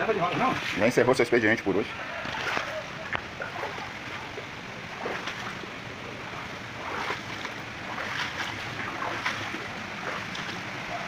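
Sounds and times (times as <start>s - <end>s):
rushing floodwater: 0.0s - 11.0s
faint splashes: 2.1s - 11.0s.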